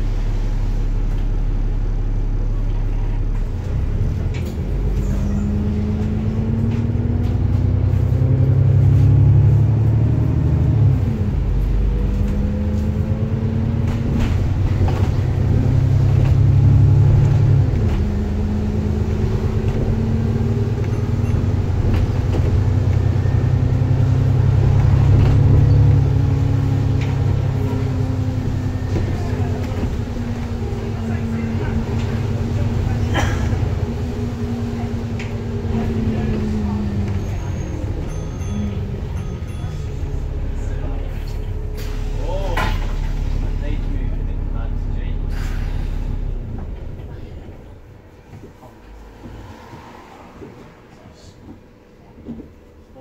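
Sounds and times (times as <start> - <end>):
bus engine accelerating: 0.0 - 53.0.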